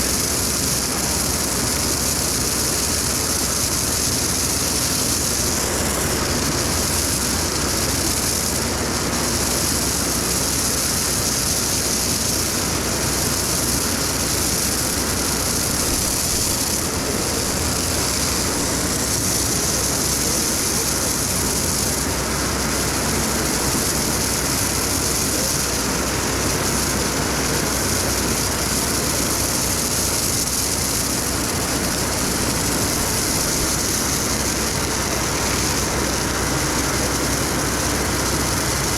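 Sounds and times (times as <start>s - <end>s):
heavy truck machinery running: 0.0s - 38.9s
strong hiss: 0.0s - 38.9s.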